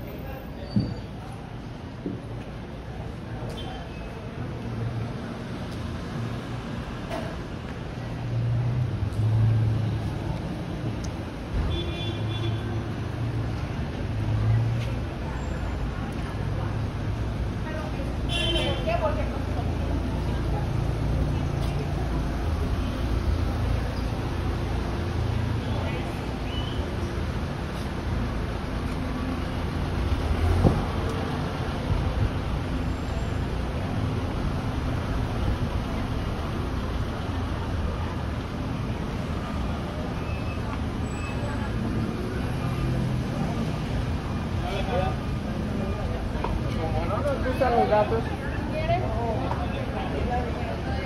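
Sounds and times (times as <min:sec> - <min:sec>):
vehicle engines humming: 0:00.0 - 0:51.0.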